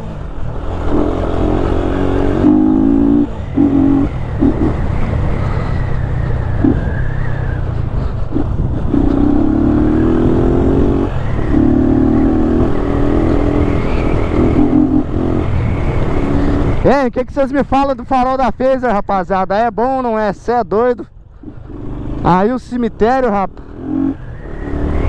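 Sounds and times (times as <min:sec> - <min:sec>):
motorcycle engine accelerating: 0:00.0 - 0:17.0, 0:21.2 - 0:25.0.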